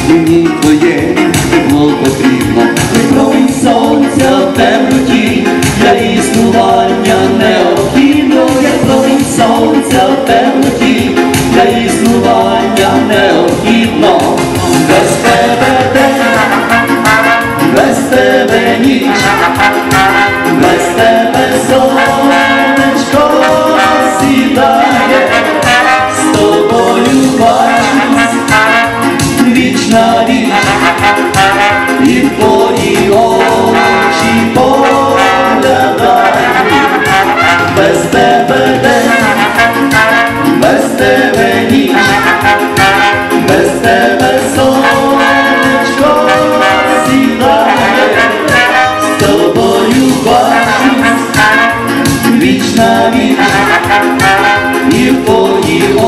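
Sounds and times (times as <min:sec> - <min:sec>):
live brass band playing: 0:00.0 - 0:56.0.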